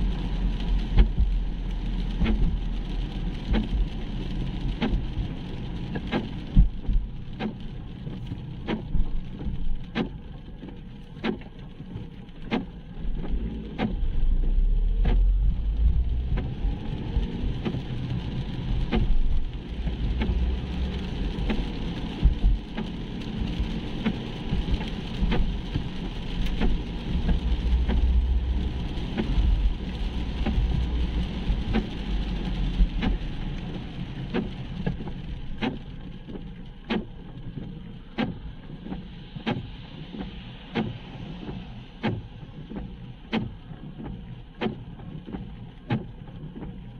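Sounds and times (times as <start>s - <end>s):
engine and tyres on wet road: 0.0s - 46.9s
windscreen wipers ticking: 0.0s - 46.9s.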